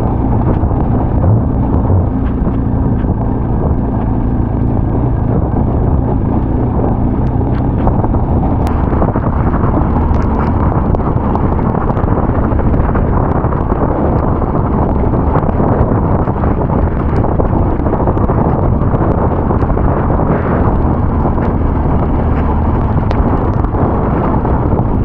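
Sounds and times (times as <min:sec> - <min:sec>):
motorcycle engine running: 0:00.0 - 0:25.0
wind on microphone: 0:00.0 - 0:25.0.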